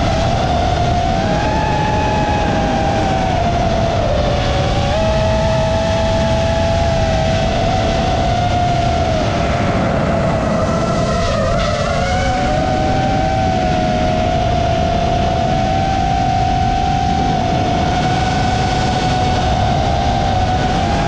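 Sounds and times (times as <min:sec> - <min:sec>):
drone motors whining: 0:00.0 - 0:21.0
steady rushing noise: 0:00.0 - 0:21.0.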